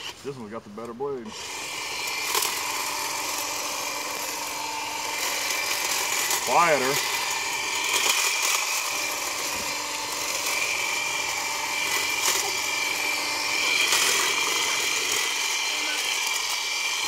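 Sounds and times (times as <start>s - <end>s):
electric hedge trimmer cutting: 0.0s - 0.2s, 0.8s - 17.0s.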